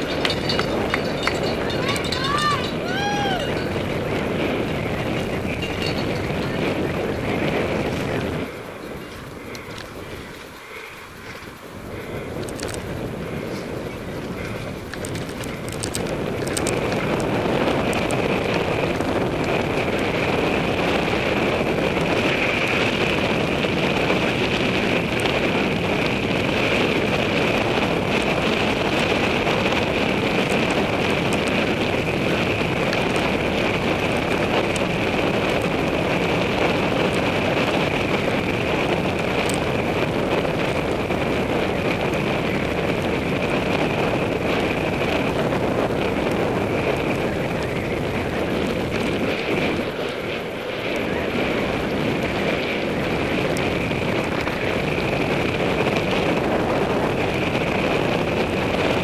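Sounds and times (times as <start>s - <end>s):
bike rattling over bumps: 0.0s - 59.0s
bike tyre noise: 0.0s - 59.0s
wind rushing over microphone: 0.0s - 59.0s.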